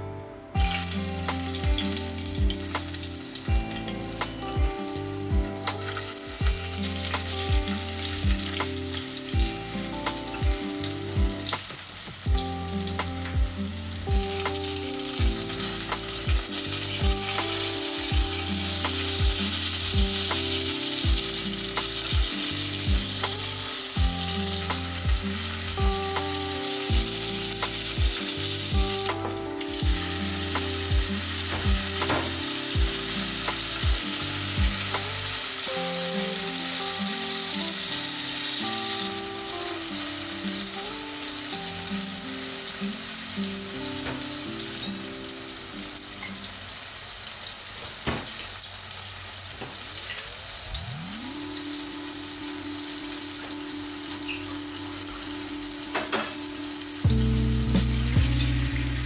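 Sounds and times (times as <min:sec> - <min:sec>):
lo-fi music with steady beat: 0:00.0 - 0:46.2, 0:50.8 - 0:59.0
zucchini sizzling in oil: 0:00.6 - 0:59.0.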